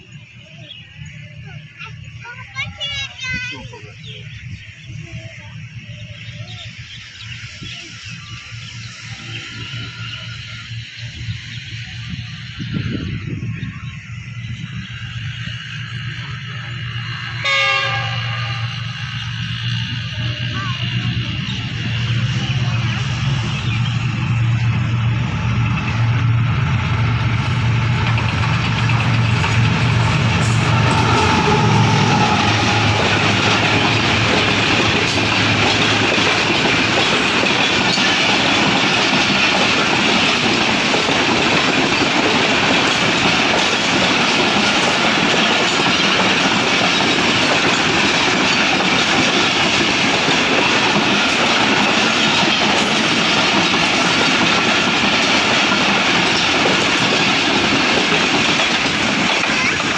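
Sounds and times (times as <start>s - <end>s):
diesel locomotive engine droning: 0.0s - 59.9s
train wheels on rails: 0.0s - 59.9s.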